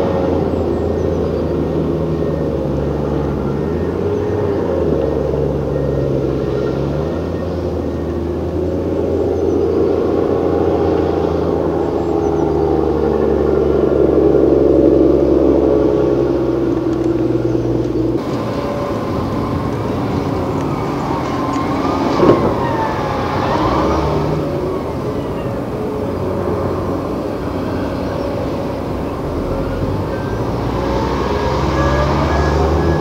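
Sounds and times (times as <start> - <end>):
diesel engine running: 0.0 - 33.0
machinery whines: 0.0 - 33.0.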